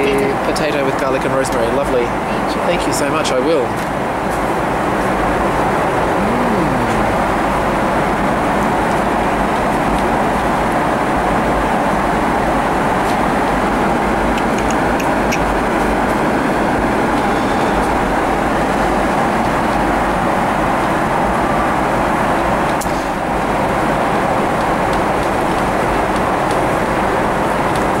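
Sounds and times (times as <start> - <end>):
airplane cabin noise: 0.0 - 28.0.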